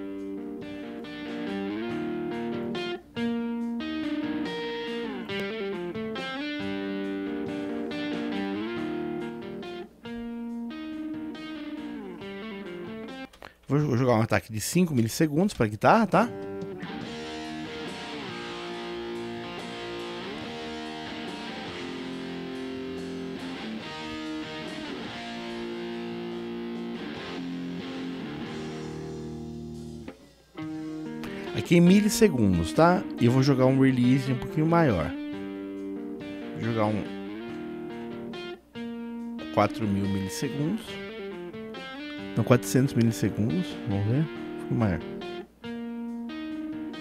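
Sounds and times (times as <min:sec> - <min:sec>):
electric guitar riff: 0:00.0 - 0:13.7, 0:16.1 - 0:47.0.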